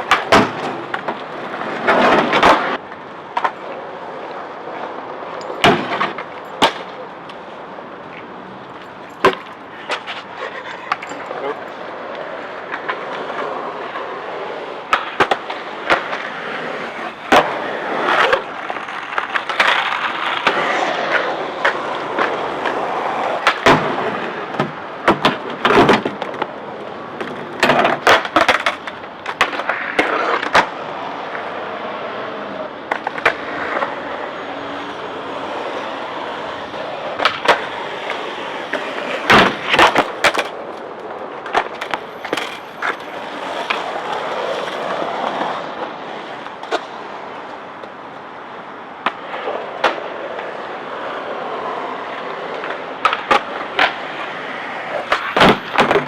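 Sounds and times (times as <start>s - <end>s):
skateboard clacks and knocks: 0.0s - 56.0s
skateboards rolling: 0.0s - 56.0s.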